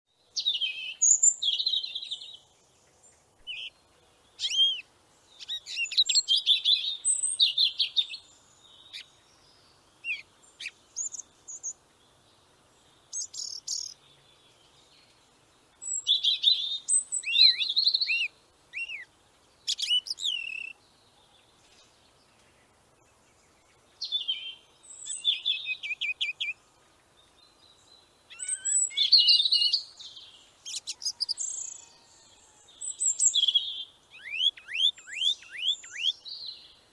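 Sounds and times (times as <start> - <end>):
songbird chirping and trilling: 0.2 - 36.9.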